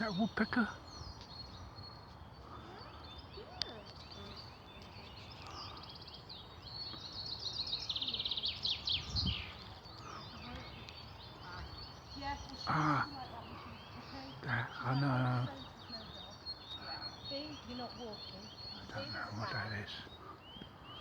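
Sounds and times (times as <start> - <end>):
small birds singing: 0.0 - 21.0.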